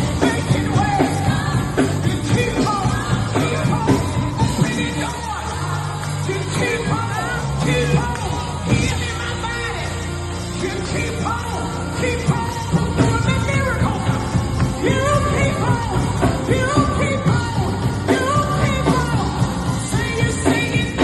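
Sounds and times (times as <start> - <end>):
band accompaniment: 0.0 - 21.0
person singing worship song: 0.0 - 21.0.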